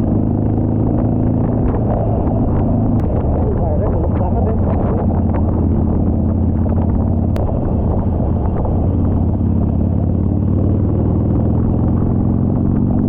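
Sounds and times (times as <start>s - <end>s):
motorcycle engine cruising: 0.0s - 13.0s
road noise: 0.0s - 13.0s.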